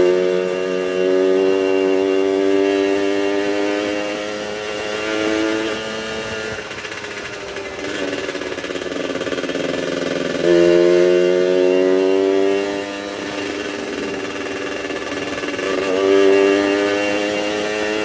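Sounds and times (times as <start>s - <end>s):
two-stroke engine running: 0.0s - 18.0s.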